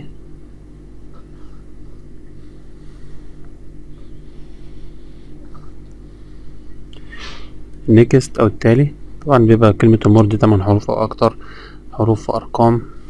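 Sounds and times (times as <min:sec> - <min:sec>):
low background hum with tones: 0:00.0 - 0:13.0.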